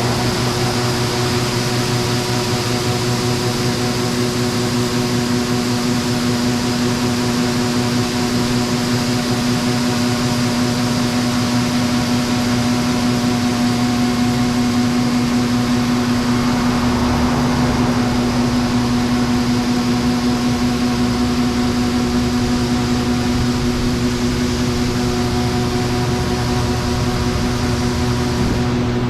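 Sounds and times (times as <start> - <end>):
combine harvester droning: 0.0 - 29.0.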